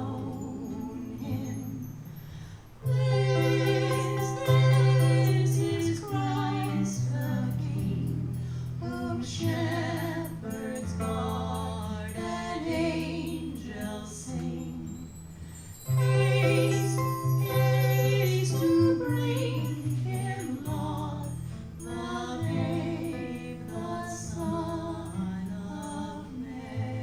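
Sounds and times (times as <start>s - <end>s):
voices singing: 0.0s - 27.0s.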